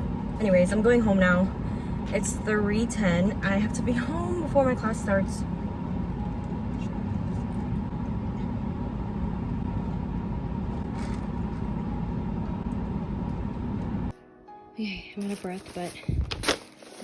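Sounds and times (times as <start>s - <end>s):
car cabin road and engine rumble: 0.0s - 14.1s.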